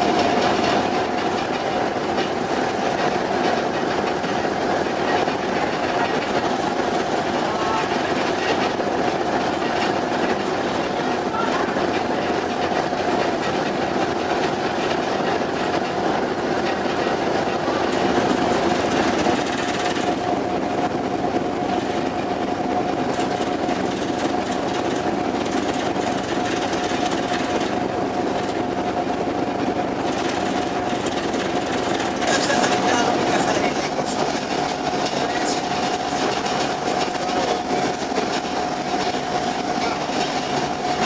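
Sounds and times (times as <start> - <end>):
ship engines droning: 0.0 - 41.0.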